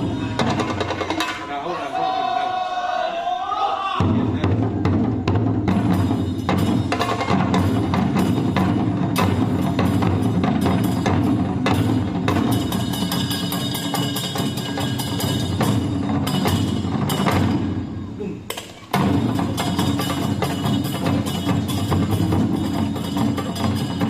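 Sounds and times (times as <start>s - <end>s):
drum ensemble playing: 0.0s - 2.1s, 4.0s - 24.0s.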